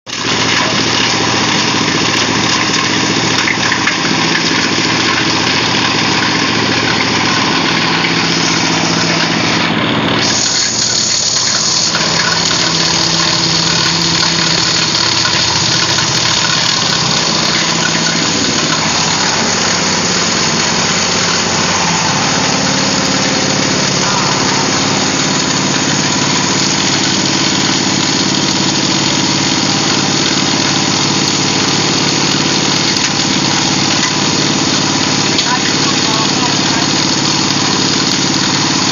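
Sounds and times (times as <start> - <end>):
diesel shredder engine running: 0.0 - 38.9.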